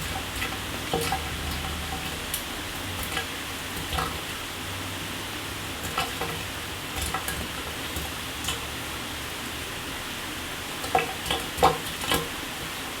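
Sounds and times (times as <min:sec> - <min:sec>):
shower running: 0:00.0 - 0:13.0.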